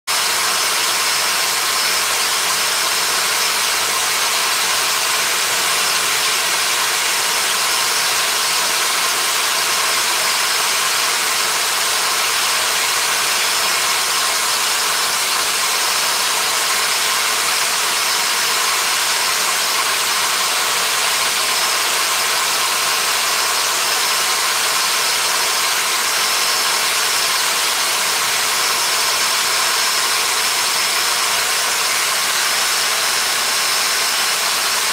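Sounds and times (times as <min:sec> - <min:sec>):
small power tool hissing and whining: 0:00.1 - 0:34.9.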